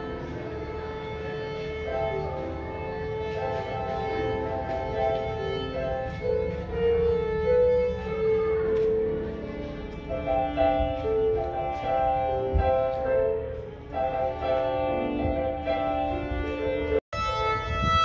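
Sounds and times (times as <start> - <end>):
violin playing held notes: 0.0 - 18.0.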